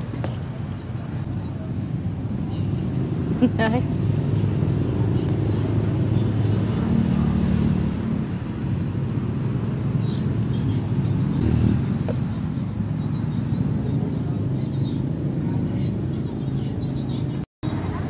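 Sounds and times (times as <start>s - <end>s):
low rumble of road traffic: 0.0s - 18.0s
vehicles passing: 0.0s - 18.0s.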